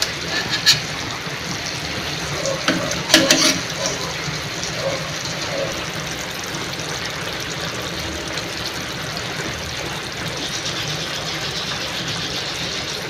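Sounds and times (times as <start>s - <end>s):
sauce bubbling in a frying pan: 0.0s - 13.0s.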